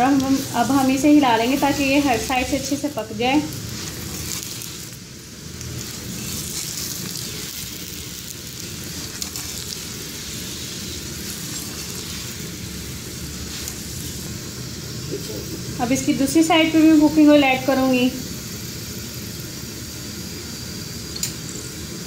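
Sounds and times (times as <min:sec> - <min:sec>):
oil sizzling under frying bread: 0:00.0 - 0:22.0.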